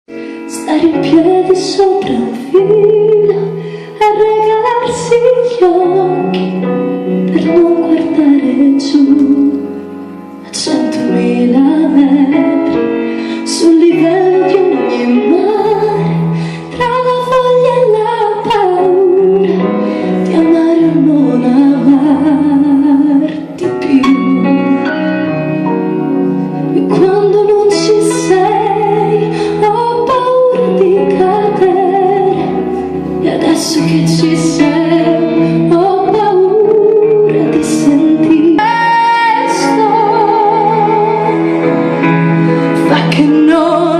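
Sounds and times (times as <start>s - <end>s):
instrumental accompaniment with bass: 0.1s - 43.9s
woman singing with vibrato: 0.4s - 25.4s, 26.6s - 43.9s.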